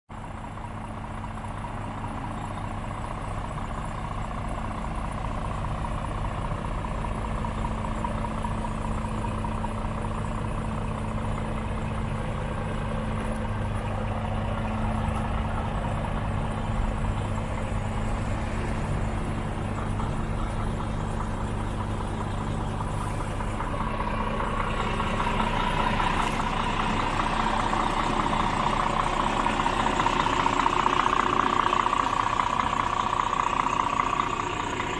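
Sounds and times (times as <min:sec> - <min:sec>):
diesel engine idling: 0:00.1 - 0:34.9.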